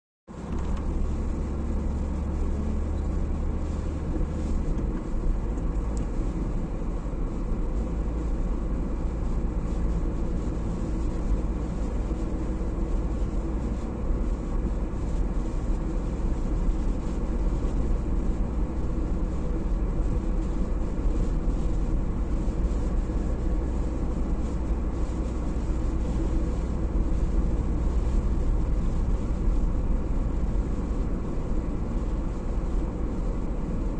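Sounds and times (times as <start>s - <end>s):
car interior driving drone: 0.3s - 33.9s.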